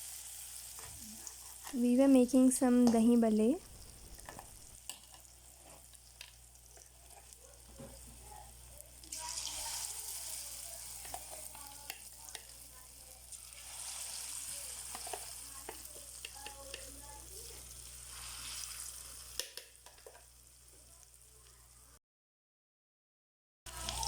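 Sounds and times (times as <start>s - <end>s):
food deep-frying in hot oil: 0.0s - 22.0s, 23.7s - 24.0s.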